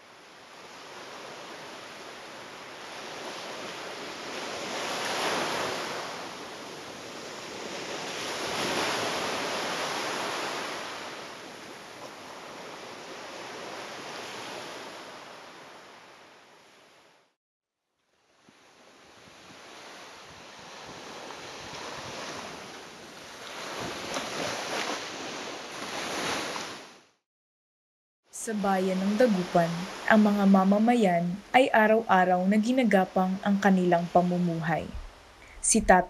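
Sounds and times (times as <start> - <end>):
ocean waves washing in: 0.0 - 17.3, 18.2 - 27.1, 28.4 - 36.0.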